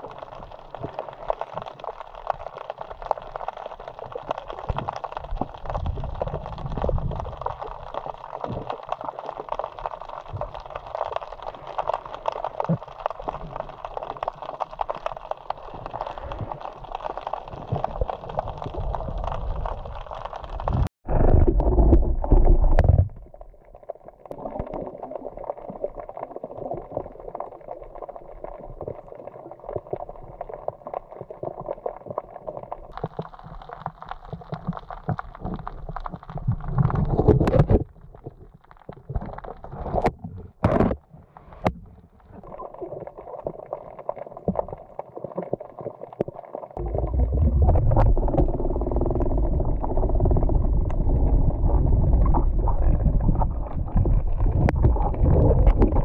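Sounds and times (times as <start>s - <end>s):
low rumbling water movement: 0.0s - 56.0s
water gurgling and sloshing: 0.0s - 56.0s.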